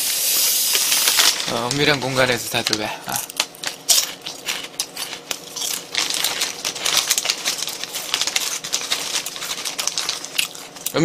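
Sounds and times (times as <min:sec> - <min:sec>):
plastic snack bag crinkling: 0:00.7 - 0:11.0
potato chips crunching: 0:00.7 - 0:11.0.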